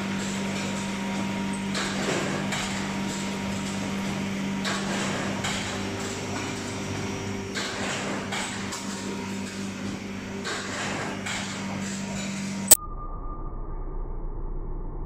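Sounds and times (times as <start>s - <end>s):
conveyor belts humming: 0.0s - 12.8s.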